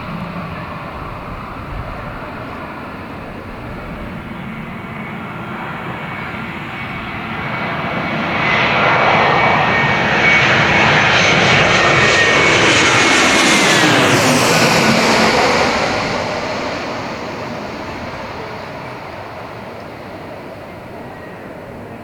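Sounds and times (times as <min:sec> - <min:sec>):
high engine whine: 0:00.0 - 0:22.0
jet airliner passing overhead: 0:00.0 - 0:22.0.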